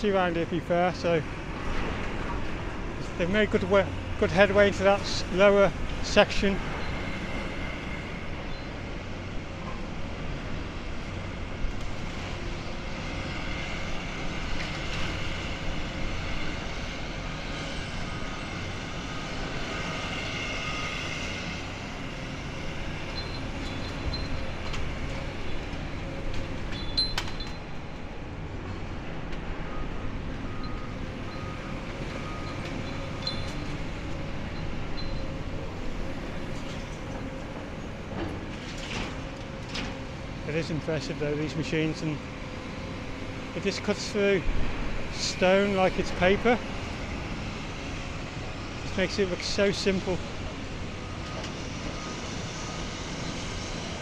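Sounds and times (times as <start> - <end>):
diesel engine and hydraulic noise: 0.0 - 54.0.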